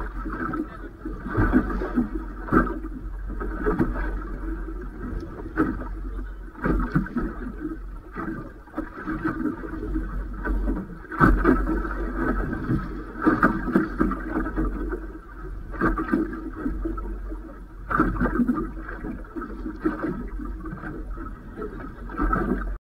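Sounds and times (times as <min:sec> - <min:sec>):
low rumble: 0:00.0 - 0:22.8
waves slapping against boat hull: 0:00.0 - 0:22.8.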